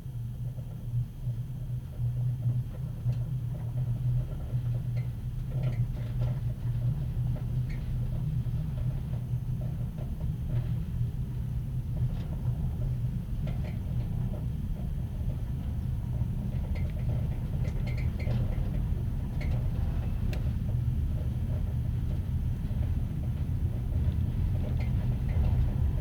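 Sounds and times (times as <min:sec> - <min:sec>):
train running gear hum and rumble: 0:00.0 - 0:26.0.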